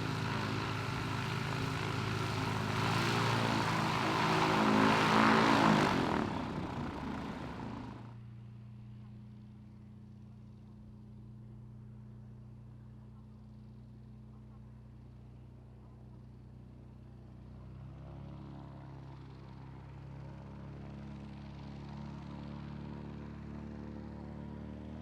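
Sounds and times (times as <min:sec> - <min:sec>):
propeller aircraft passing: 0:00.0 - 0:25.0.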